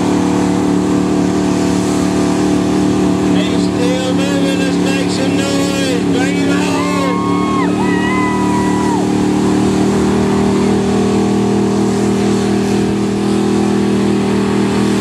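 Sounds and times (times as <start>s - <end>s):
tires churning through mud: 0.0s - 15.0s
truck engine at high revs: 0.0s - 15.0s.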